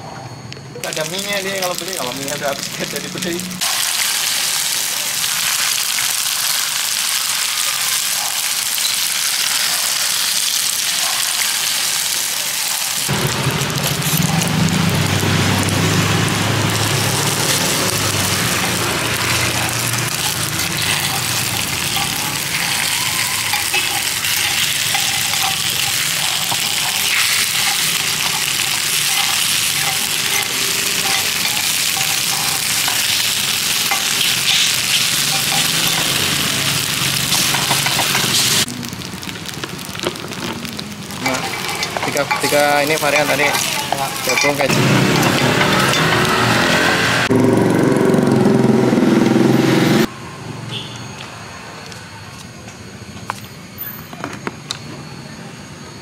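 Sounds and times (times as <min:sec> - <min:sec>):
batter sizzling in a pan: 0:00.8 - 0:47.4.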